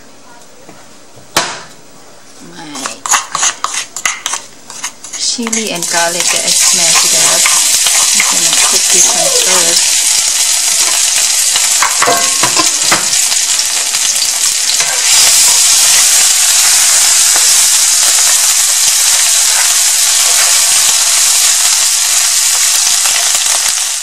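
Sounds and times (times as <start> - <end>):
food sizzling in hot oil: 3.0 - 24.0.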